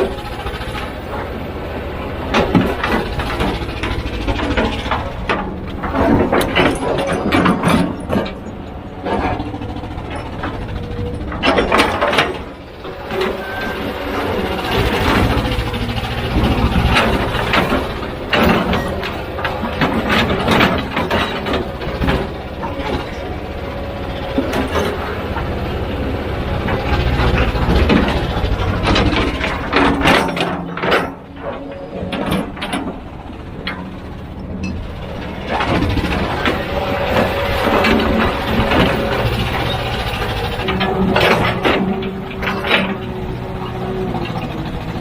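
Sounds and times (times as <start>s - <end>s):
clanks of metal and rock: 0.0s - 45.0s
heavy diesel engine rumble: 0.0s - 45.0s.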